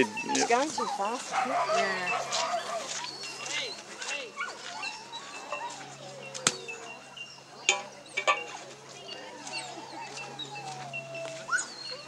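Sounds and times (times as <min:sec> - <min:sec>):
dogs whining and whimpering: 0:00.0 - 0:12.0.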